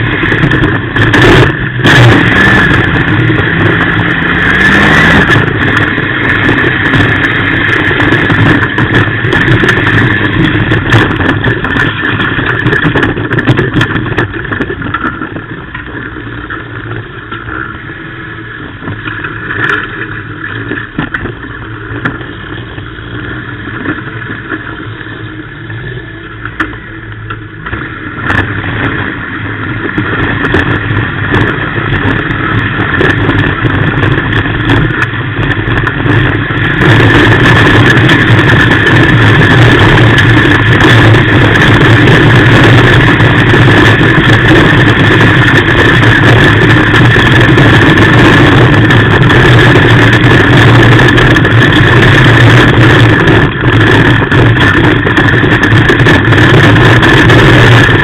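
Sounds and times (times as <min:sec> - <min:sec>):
rally car engine running hard: 0:00.0 - 0:58.0.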